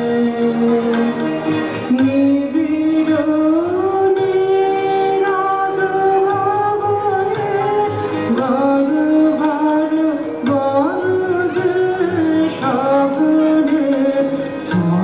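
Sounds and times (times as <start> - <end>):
person singing long sliding notes: 0.0 - 15.0.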